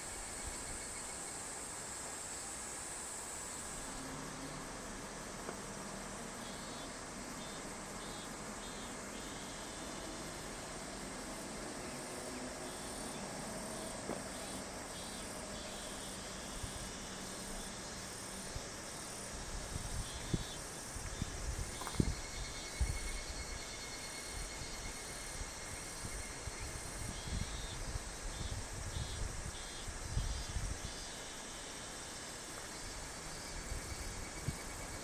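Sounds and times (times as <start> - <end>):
insects calling: 0.0 - 35.0.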